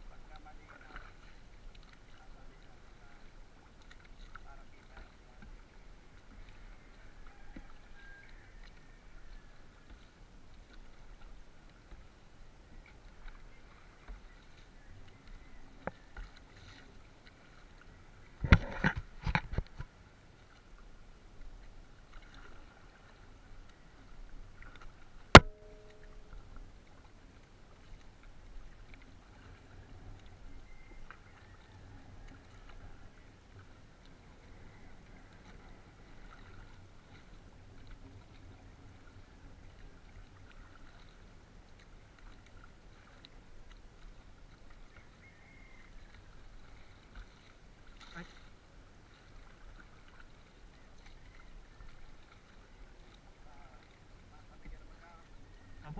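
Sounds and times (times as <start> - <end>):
water along canoe hull: 0.0 - 55.9.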